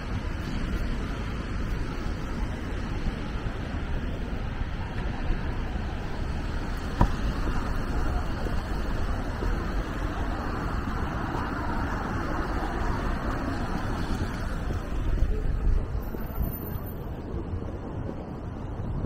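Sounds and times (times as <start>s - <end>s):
city traffic on wet streets: 0.0s - 19.0s.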